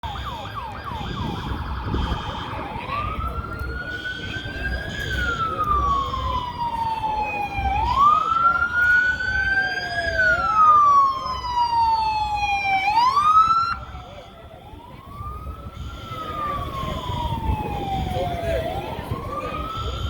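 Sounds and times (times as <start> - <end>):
fire engine siren: 0.0 - 20.0
second siren wailing: 0.0 - 20.0.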